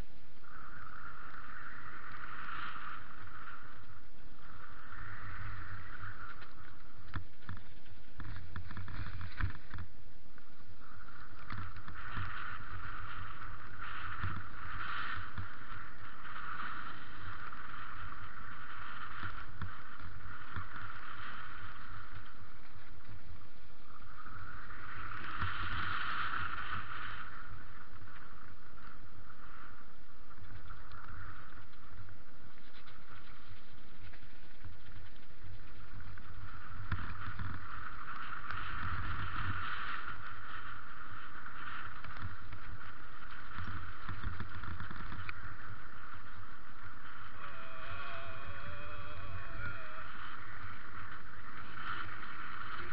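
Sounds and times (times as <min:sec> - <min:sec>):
bike rolling on gravel: 0:00.0 - 0:52.9.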